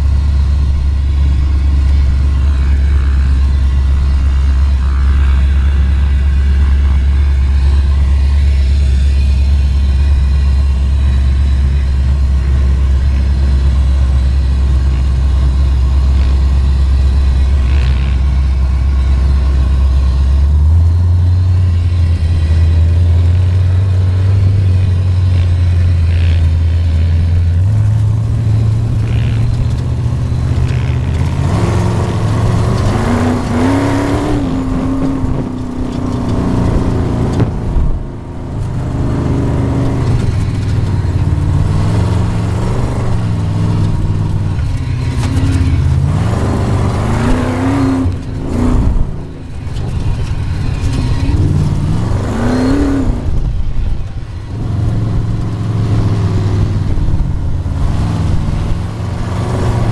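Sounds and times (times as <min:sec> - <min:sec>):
dune buggy engine revving: 0:00.0 - 0:59.9.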